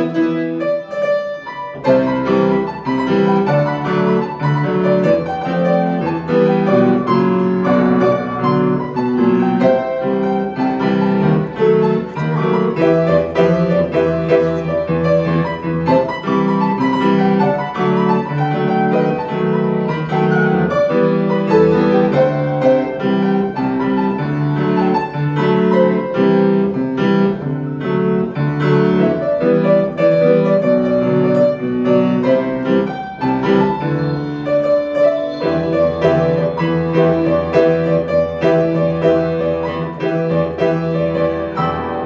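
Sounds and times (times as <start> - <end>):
grand piano busy run: 0.0 - 42.0.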